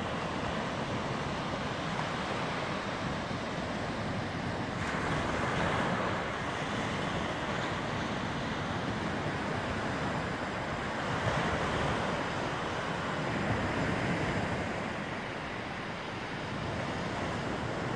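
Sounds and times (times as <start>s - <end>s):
waves breaking on sandy beach: 0.0s - 17.9s.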